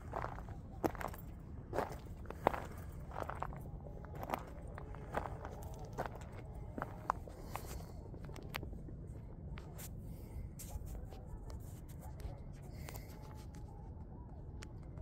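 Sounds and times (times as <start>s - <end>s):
faint clicks and crunches: 0.0s - 10.0s, 10.6s - 15.0s.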